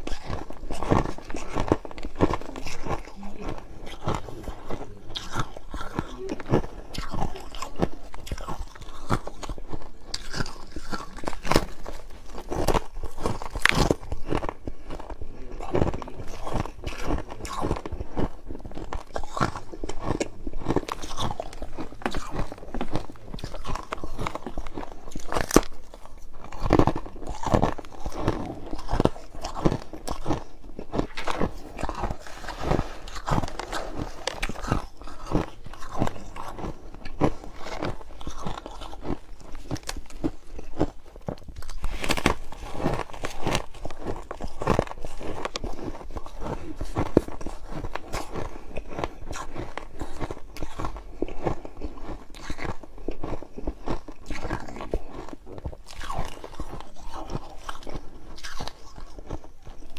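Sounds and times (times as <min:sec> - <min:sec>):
person chewing crushed ice: 0:00.0 - 0:59.9.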